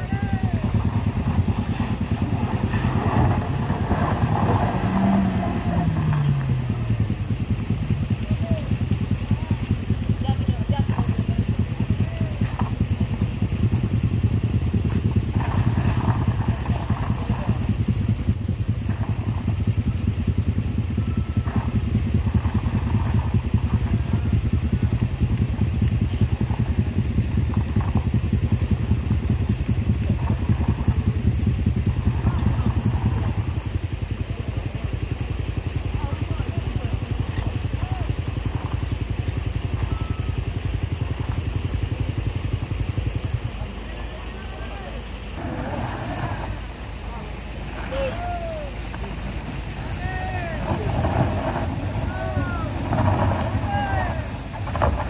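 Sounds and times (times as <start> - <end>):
minibus engine throbbing: 0.0 - 55.0.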